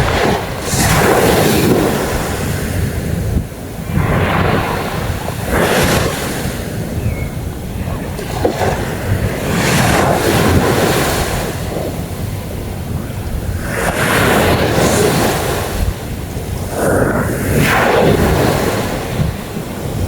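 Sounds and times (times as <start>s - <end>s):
sea waves breaking on beach: 0.0s - 20.0s
wind buffeting microphone: 0.0s - 20.0s.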